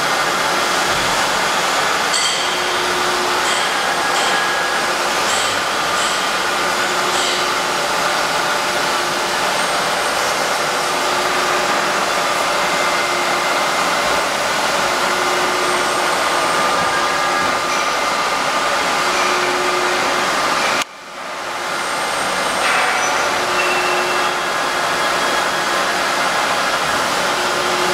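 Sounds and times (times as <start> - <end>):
milling machine whirring: 0.0 - 27.9.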